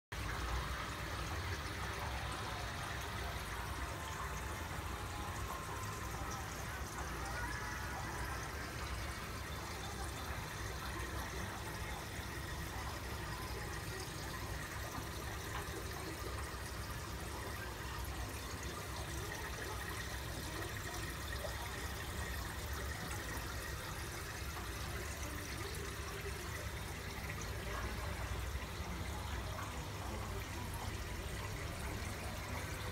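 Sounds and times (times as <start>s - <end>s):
aquarium filter bubbling: 0.1s - 32.9s.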